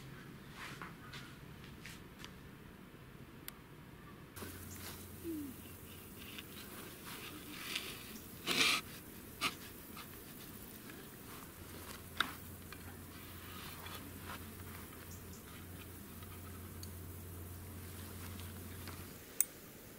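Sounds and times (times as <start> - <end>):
faint low hum: 0.0 - 19.9.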